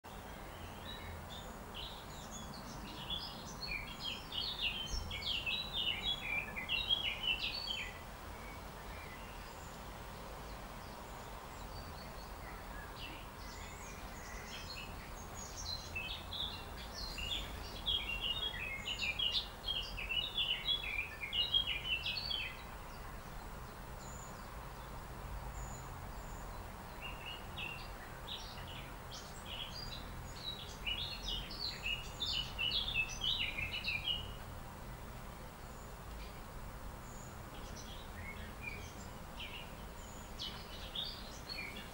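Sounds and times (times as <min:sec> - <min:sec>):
low background noise: 0:00.0 - 0:41.9
birds twittering: 0:00.1 - 0:41.9.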